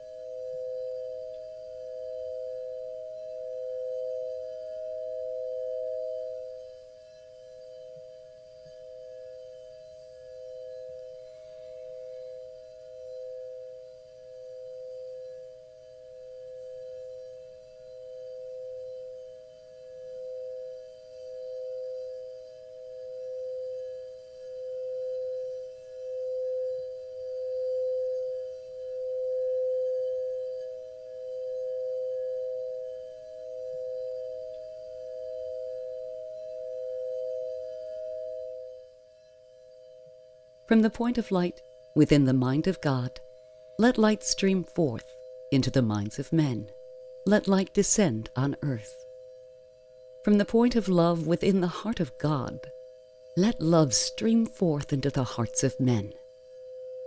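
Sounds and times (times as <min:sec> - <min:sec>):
two-pitch ringing meditation tone: 0:00.0 - 0:57.0.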